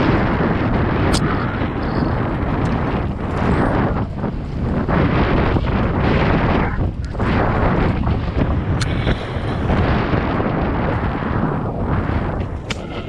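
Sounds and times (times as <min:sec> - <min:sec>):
mountain bike rumbling on dirt trail: 0:00.0 - 0:13.0
wind buffeting microphone: 0:00.0 - 0:13.0.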